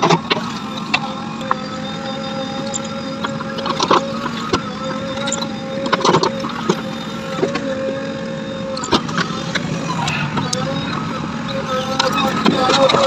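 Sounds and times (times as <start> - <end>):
machine whining steadily: 0.0 - 13.0.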